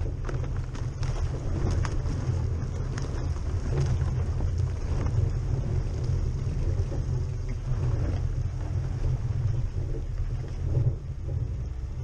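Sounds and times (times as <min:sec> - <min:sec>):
car engine rumble: 0:00.0 - 0:12.0
ice cracking under tyres: 0:00.0 - 0:12.0.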